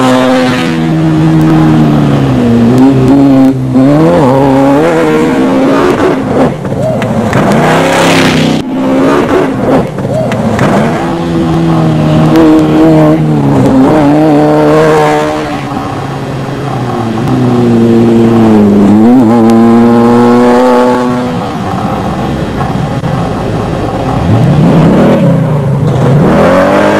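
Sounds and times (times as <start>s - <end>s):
race vehicle engines revving: 0.0s - 26.9s.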